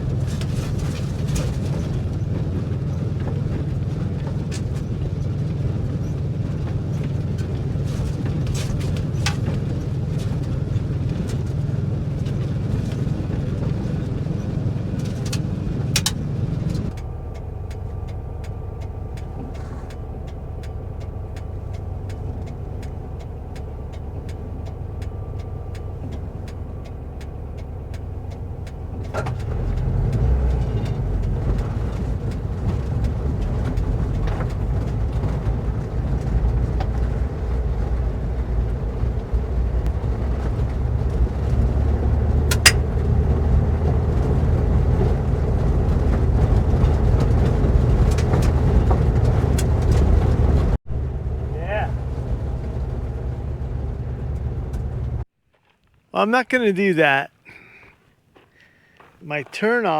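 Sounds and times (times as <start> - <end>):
fast patter of small clicks: 0.0 - 50.8
van engine running: 0.0 - 55.3
vehicle rumbling over rough ground: 0.0 - 59.9.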